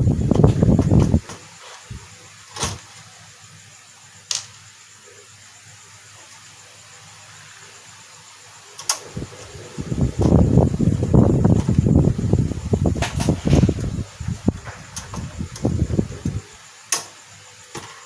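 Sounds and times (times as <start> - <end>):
faint background hum: 0.0 - 18.0.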